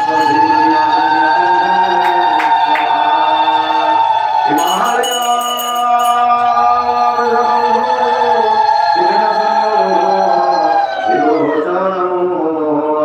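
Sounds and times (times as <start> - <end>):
devotional music with singing: 0.0 - 13.0.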